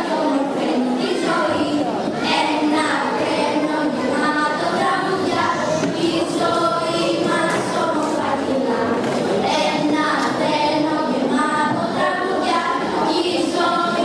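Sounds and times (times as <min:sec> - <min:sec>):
girls singing together: 0:00.0 - 0:14.0.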